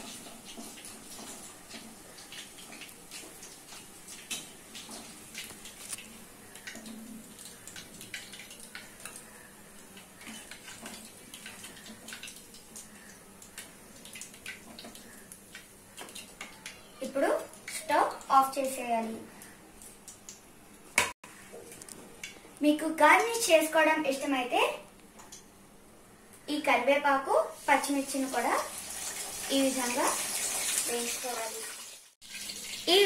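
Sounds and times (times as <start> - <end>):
hot oil sizzling and popping: 0.0 - 24.4, 27.5 - 33.0.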